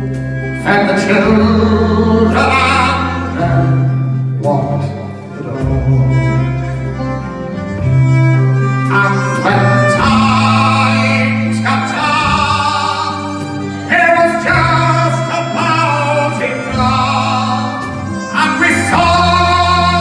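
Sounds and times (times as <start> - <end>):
live band playing folk ballad: 0.0 - 20.0
man singing: 0.5 - 6.7, 8.8 - 20.0.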